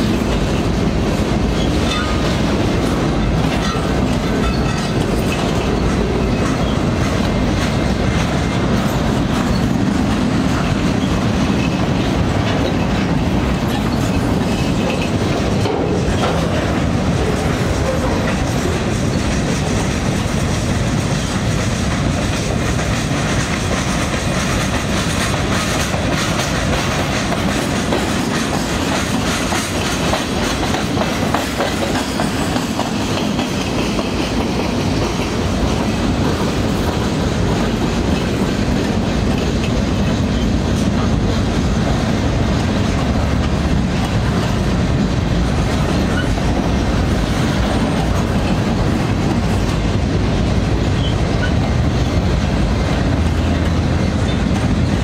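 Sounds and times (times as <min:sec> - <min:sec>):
steel wheels running on rails: 0:00.0 - 0:55.0.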